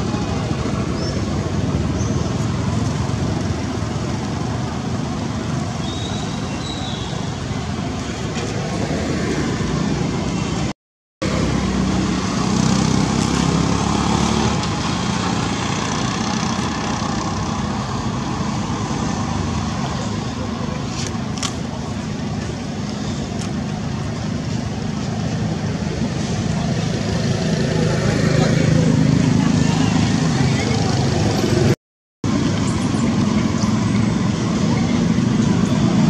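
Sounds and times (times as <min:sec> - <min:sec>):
road traffic going by: 0:00.0 - 0:36.0.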